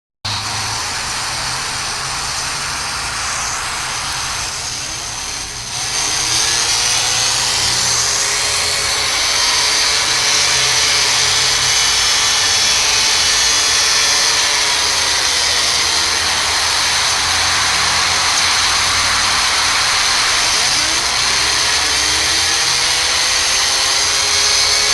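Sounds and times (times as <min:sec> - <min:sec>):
harsh static alarm noise: 0:00.3 - 0:24.9.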